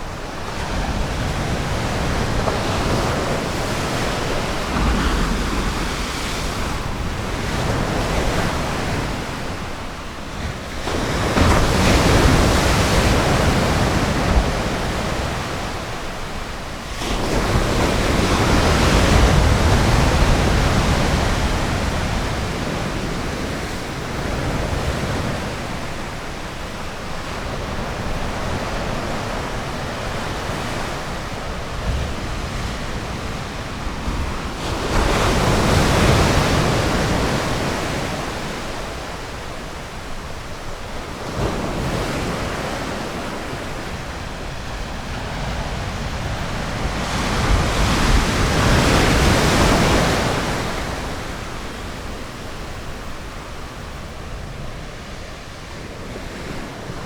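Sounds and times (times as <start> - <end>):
ocean surf breaking: 0.0 - 26.3, 27.0 - 57.0.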